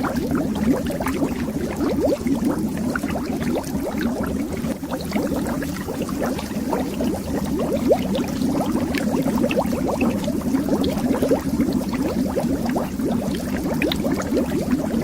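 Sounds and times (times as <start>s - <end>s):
underwater bubbling: 0.0s - 15.0s.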